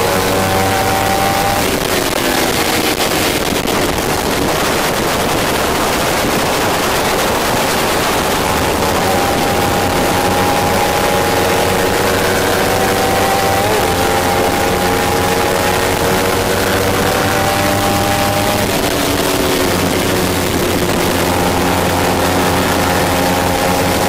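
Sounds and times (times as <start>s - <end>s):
motorcycle engine: 0.0s - 24.0s
wind rush: 0.0s - 24.0s.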